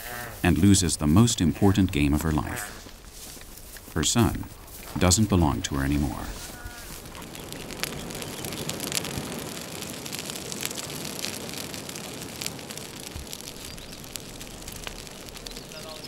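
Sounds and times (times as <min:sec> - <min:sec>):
fire crackles and pops: 0:00.0 - 0:16.0
wood fire hissing: 0:00.0 - 0:16.0.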